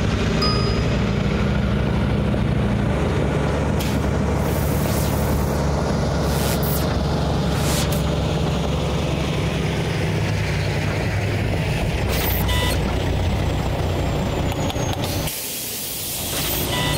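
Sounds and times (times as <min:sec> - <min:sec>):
pickup engine low rumble: 0:00.0 - 0:16.8.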